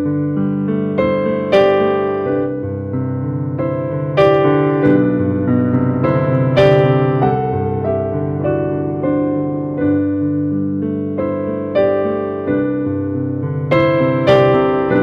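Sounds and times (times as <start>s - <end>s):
electric piano playing chords: 0.0s - 15.0s.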